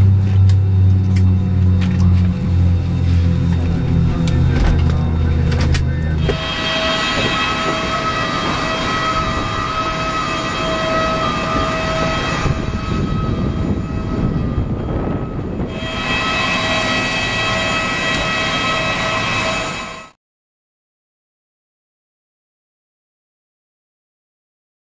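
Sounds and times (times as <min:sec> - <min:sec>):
jet aircraft whine: 0:00.0 - 0:20.2.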